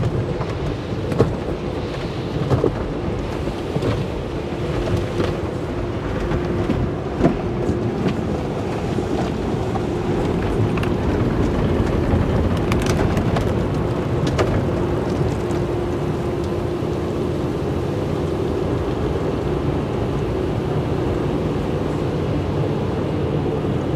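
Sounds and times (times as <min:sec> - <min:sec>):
water spray drumming on car: 0:00.0 - 0:21.7
steady low hum: 0:00.0 - 0:23.9.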